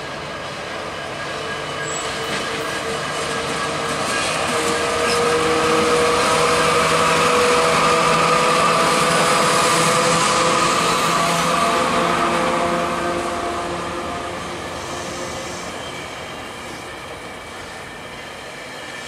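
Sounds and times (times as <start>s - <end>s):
diesel locomotives passing: 0.0s - 19.0s.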